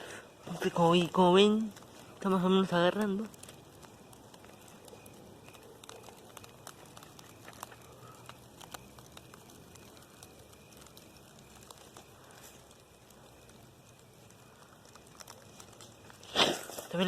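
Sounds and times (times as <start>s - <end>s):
campfire crackling and popping: 0.0s - 17.0s
low fire hiss: 0.0s - 17.0s.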